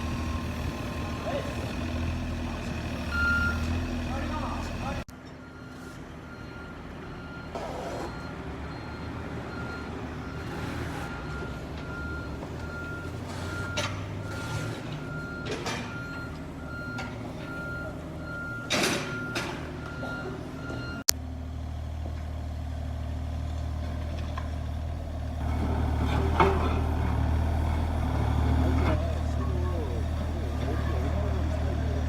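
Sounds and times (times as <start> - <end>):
vehicle reversing alarm beeping: 0.0 - 21.1, 24.7 - 32.0
diesel engine running: 0.0 - 32.0.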